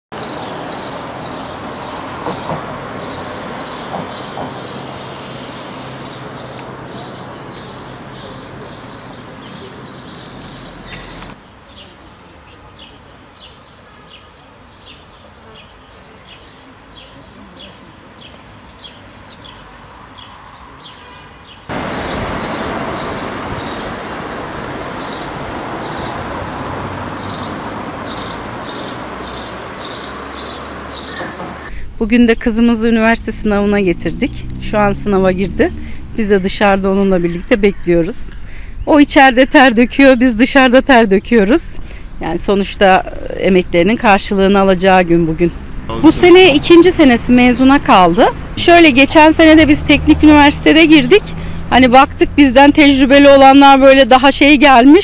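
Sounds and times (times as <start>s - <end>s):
passing road traffic: 0.1s - 14.9s, 15.9s - 55.0s
small birds chirping: 0.2s - 51.6s.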